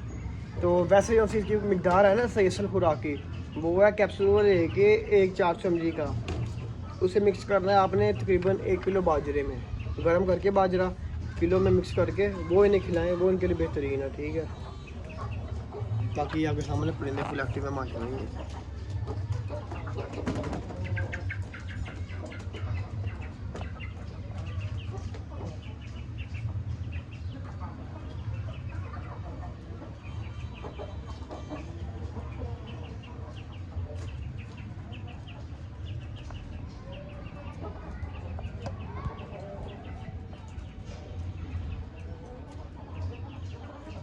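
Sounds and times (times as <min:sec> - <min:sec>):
chickens clucking and calling: 0:00.0 - 0:44.0.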